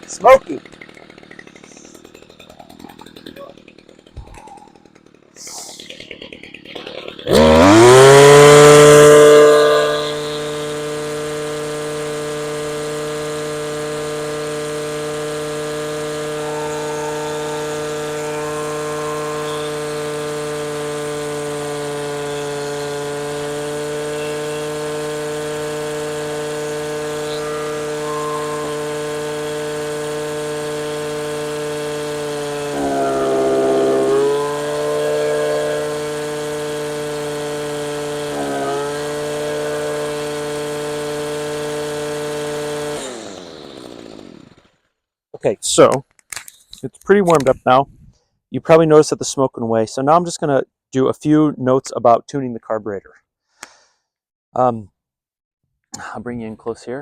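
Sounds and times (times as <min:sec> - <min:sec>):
string trimmer engine running: 0:00.0 - 0:44.9, 0:45.7 - 0:47.8.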